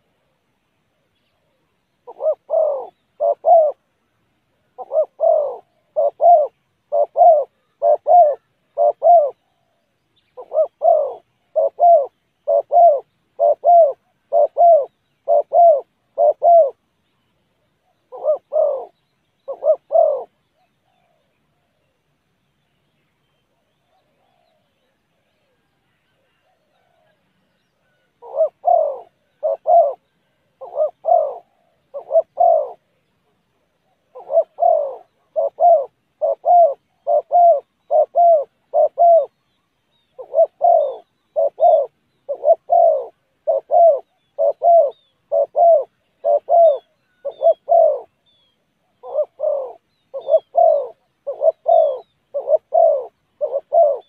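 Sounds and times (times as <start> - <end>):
dove cooing: 0.0 - 4.0, 4.6 - 16.9, 17.8 - 22.0, 23.4 - 54.0.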